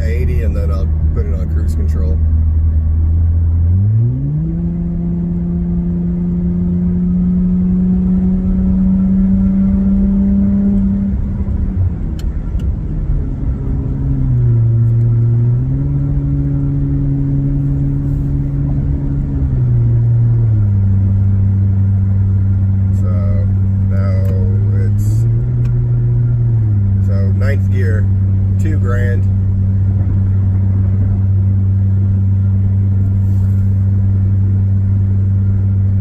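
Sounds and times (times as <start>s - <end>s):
truck engine exhaust drone: 0.0s - 36.0s.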